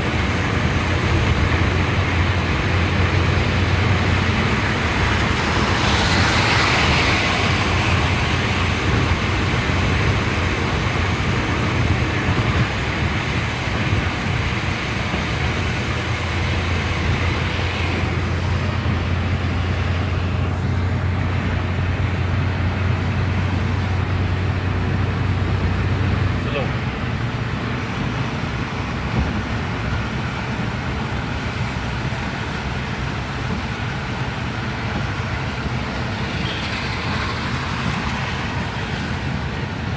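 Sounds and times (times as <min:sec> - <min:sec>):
car engine hum: 0:00.0 - 0:39.9
tyre and wind noise: 0:00.0 - 0:39.9.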